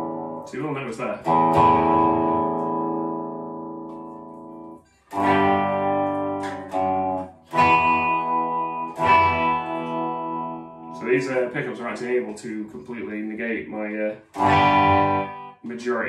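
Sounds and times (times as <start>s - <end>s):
electric guitar chords strummed: 0.0s - 12.2s, 14.2s - 16.0s.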